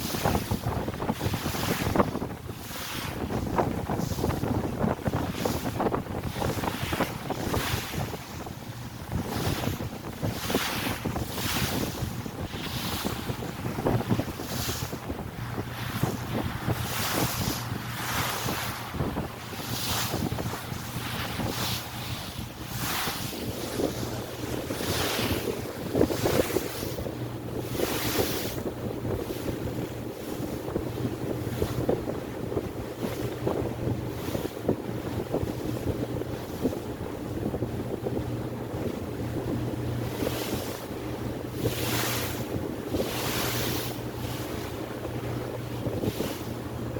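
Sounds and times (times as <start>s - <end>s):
water rushing past hull: 0.0s - 46.9s
wind buffeting microphone: 0.0s - 46.9s.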